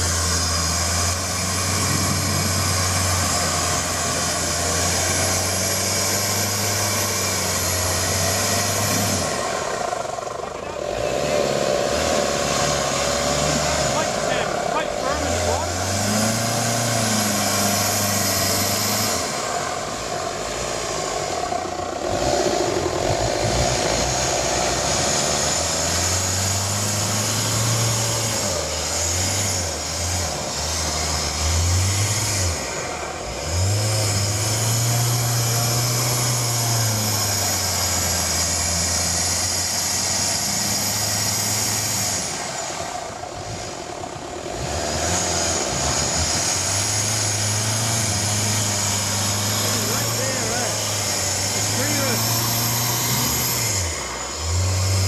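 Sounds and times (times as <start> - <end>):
engine revving in mud: 0.0 - 55.0.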